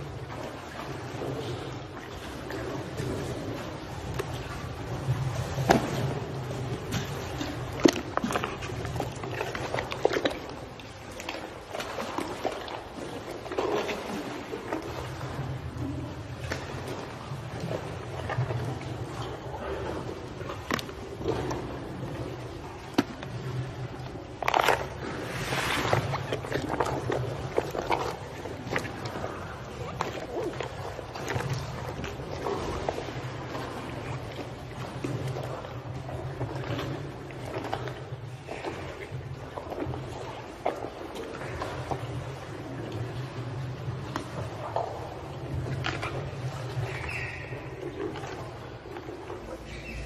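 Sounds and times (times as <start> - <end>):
water sloshing: 0.0 - 50.0
apples knocking and splashing: 0.3 - 15.5, 20.4 - 50.0.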